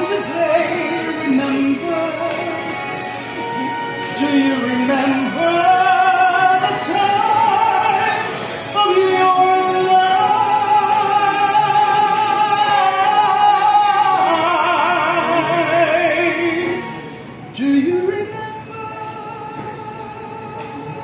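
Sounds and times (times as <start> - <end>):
woman singing with vibrato: 0.0 - 21.0.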